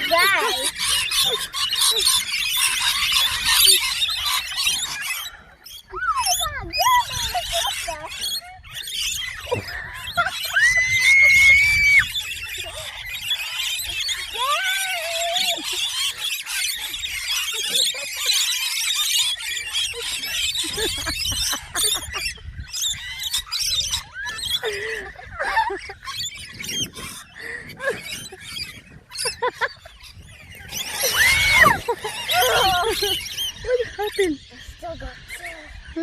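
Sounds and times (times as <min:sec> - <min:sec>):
birds calling and chattering: 0:00.0 - 0:36.0
sliding bird calls: 0:00.0 - 0:36.0.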